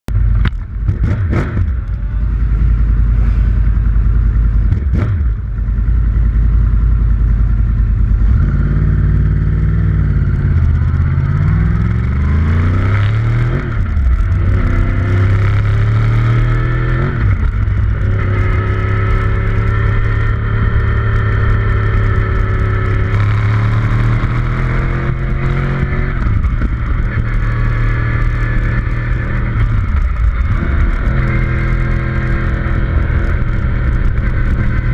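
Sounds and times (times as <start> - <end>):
heavy wind rumble: 0.1 - 34.9
vehicle engine accelerating: 0.1 - 34.9.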